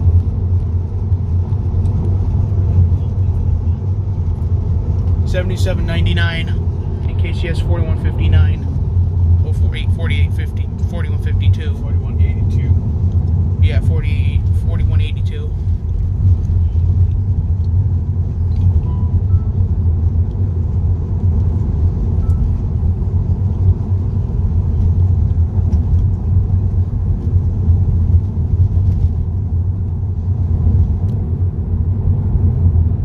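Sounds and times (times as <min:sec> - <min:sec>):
car road and tyre noise: 0:00.0 - 0:33.0.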